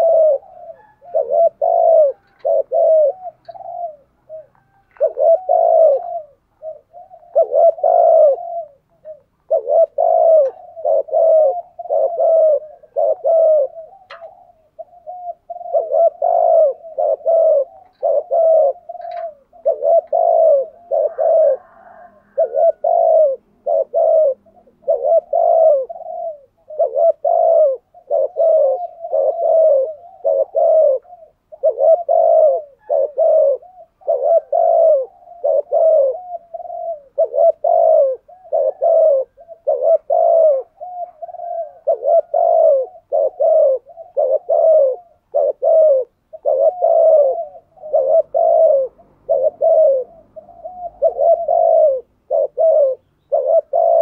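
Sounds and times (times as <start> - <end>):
dove cooing rapidly: 0.0 - 54.0.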